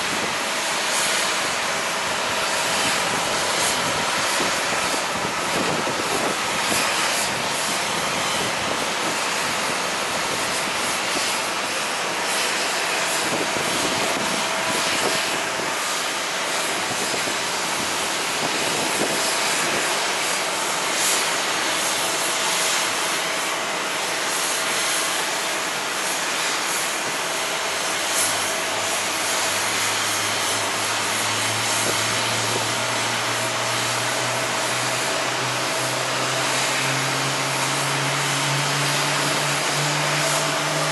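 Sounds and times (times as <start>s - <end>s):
airliner engines rushing: 0.0s - 40.9s.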